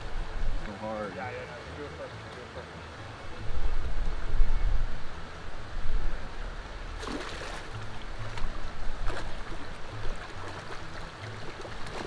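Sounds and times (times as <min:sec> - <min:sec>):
rushing water: 0:00.0 - 0:12.0
background music with low beat: 0:01.6 - 0:12.0.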